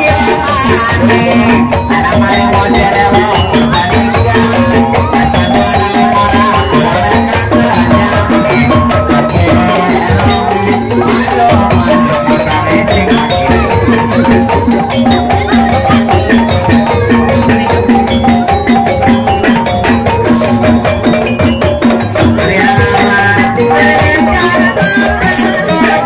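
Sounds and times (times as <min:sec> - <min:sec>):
bright high percussion: 0:00.0 - 0:26.0
fast steady drum beat: 0:00.0 - 0:26.0
tuned percussion melody: 0:00.0 - 0:26.0.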